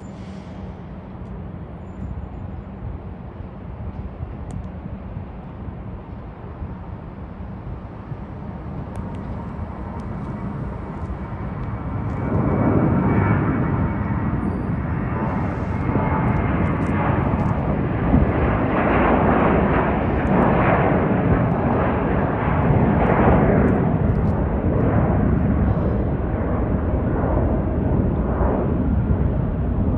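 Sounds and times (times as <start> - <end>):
jet engines at takeoff thrust: 0.0 - 29.9.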